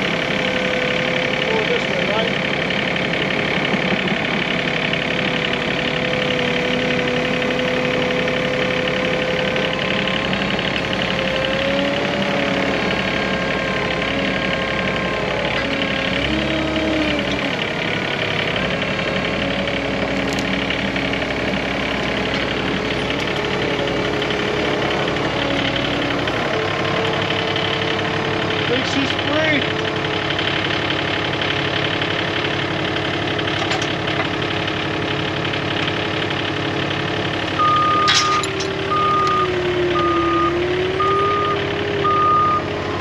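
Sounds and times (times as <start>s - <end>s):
skid steer engine under load: 0.0s - 43.0s.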